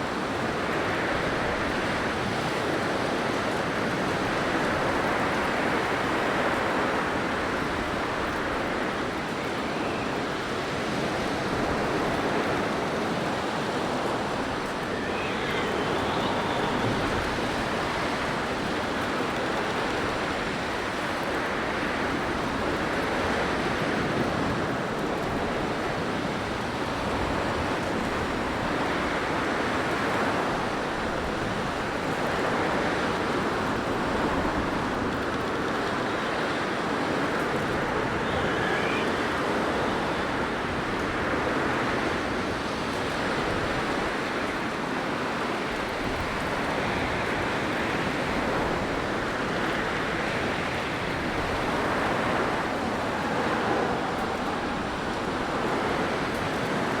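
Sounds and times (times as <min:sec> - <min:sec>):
blizzard wind blowing: 0:00.0 - 0:57.0.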